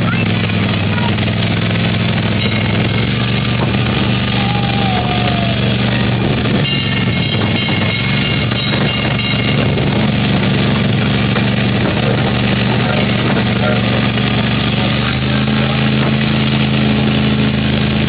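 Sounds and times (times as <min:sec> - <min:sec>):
small train engine running: 0:00.0 - 0:18.0.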